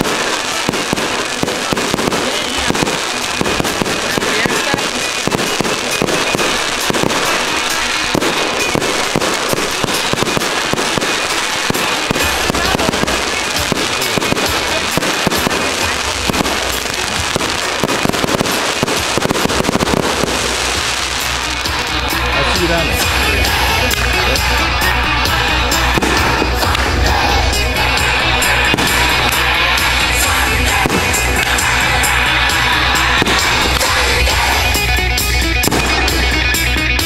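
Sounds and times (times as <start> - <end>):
fireworks launching and bursting: 0.0 - 37.0.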